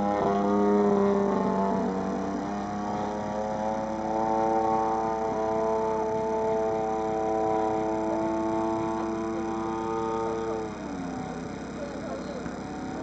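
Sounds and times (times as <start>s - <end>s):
model airplane engine: 0.0s - 13.0s.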